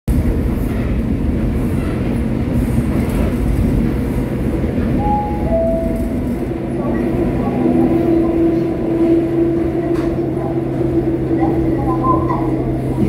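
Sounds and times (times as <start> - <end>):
train interior rumble: 0.1 - 13.0.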